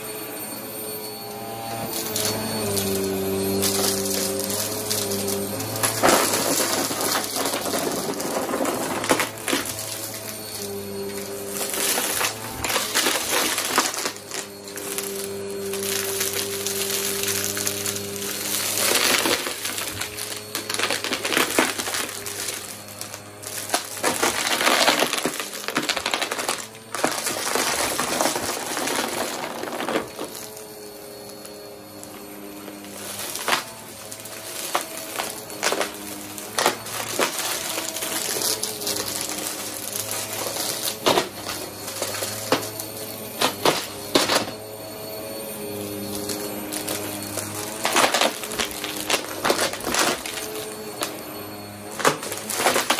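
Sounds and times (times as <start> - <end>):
vacuum cleaner running: 0.0 - 52.9
coins rattling in vacuum: 1.7 - 52.9.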